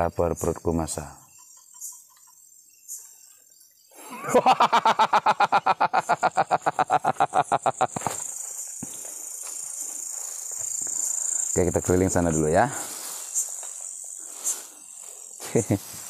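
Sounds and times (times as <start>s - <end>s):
crickets shrilling: 0.0s - 16.0s.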